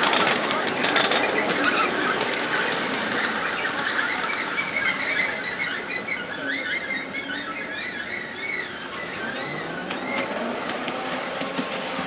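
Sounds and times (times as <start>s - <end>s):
miniature train rolling: 0.0s - 12.0s.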